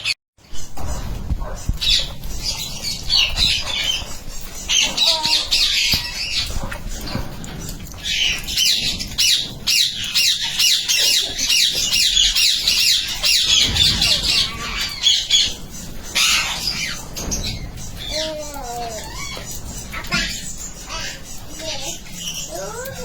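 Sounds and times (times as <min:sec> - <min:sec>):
parakeets squawking: 0:00.0 - 0:23.0.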